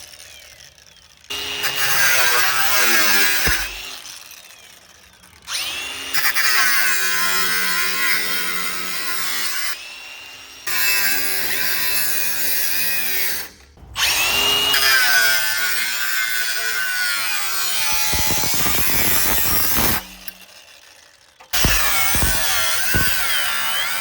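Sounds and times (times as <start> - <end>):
electric power tool on metal: 0.0 - 24.0.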